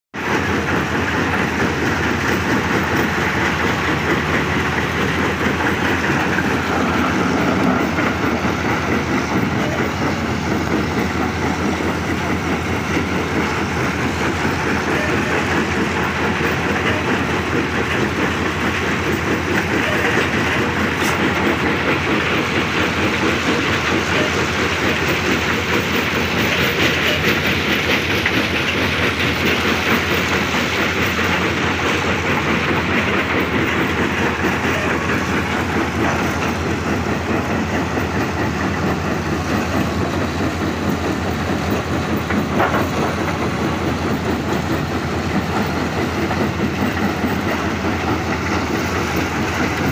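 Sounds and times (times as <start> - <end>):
excavator engine and hydraulics: 0.2 - 49.9.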